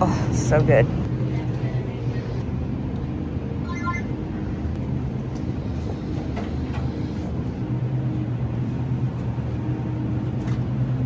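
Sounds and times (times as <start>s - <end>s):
freezer hum and rumble: 0.0s - 11.0s.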